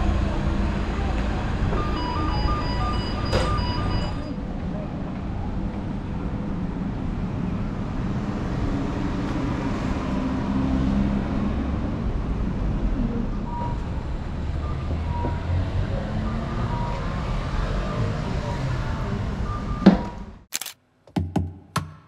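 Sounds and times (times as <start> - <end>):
vehicle rumble: 0.0 - 20.8.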